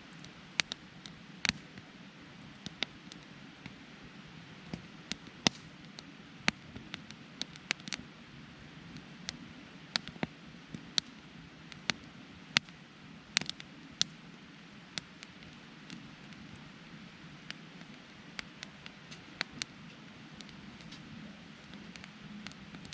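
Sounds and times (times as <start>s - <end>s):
campfire crackling and popping: 0.0s - 22.9s
low rush of burning: 0.0s - 22.9s.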